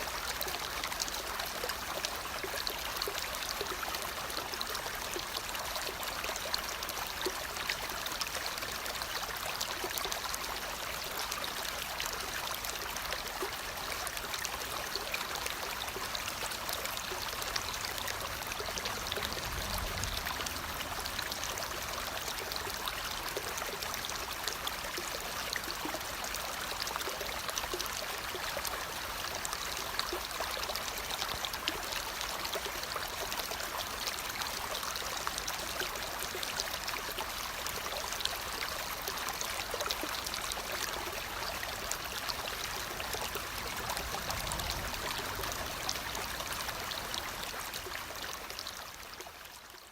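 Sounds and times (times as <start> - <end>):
running water: 0.0 - 49.9.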